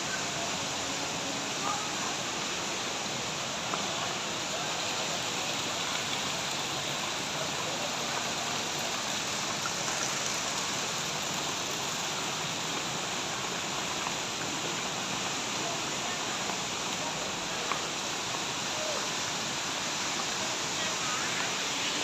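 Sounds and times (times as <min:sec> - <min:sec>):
indoor waterfall rushing: 0:00.0 - 0:22.0.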